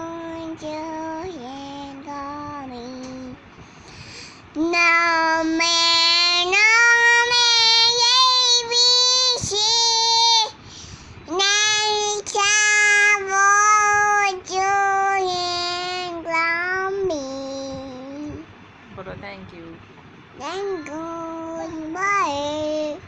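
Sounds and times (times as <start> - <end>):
young child singing: 0.0 - 3.4, 4.5 - 10.6, 11.3 - 18.4, 20.4 - 23.0.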